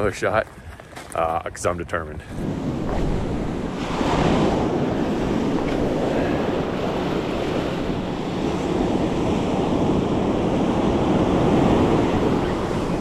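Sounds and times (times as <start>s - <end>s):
wind buffeting microphone: 0.0s - 13.0s
ocean surf breaking: 2.3s - 13.0s.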